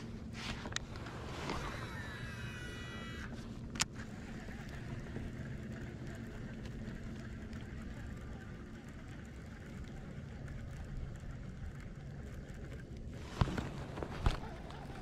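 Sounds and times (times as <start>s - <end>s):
steady low hum: 0.0s - 15.0s
fishing reel spool whining: 0.7s - 15.0s.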